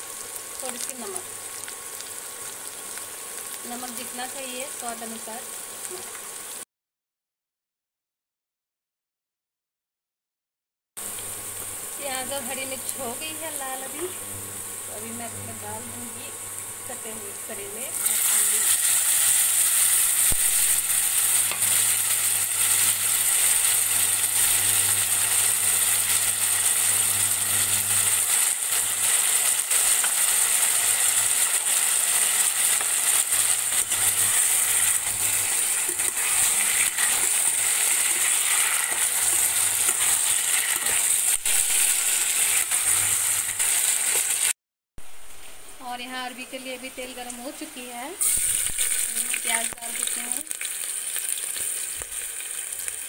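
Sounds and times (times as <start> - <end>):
vegetables sizzling in hot oil: 0.0 - 6.6, 11.0 - 44.6, 46.2 - 53.0.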